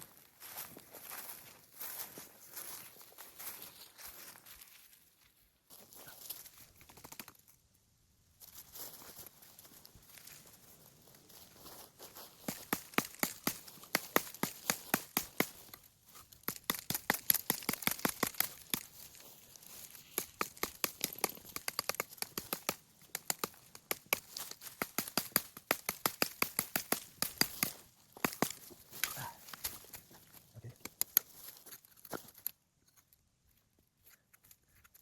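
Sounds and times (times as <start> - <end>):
footsteps crunching on stony ground: 0.0 - 6.6, 8.4 - 32.5.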